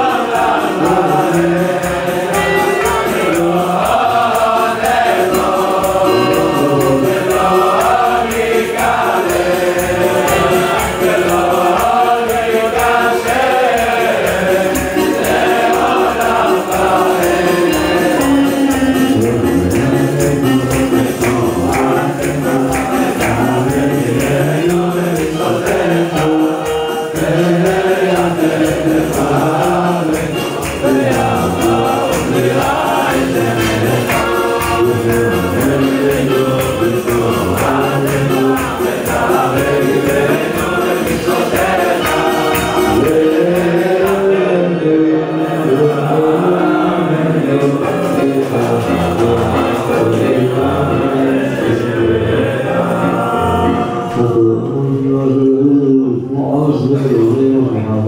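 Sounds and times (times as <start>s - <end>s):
rhythmic beat: 0.0s - 44.7s, 45.4s - 54.9s
group of voices singing: 0.0s - 58.0s.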